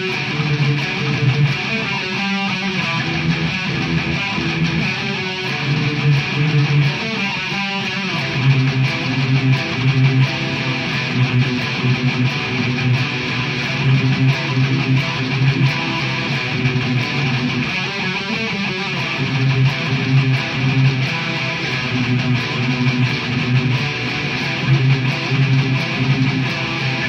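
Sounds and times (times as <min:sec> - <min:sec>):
electric guitars playing rhythm: 0:00.0 - 0:27.0.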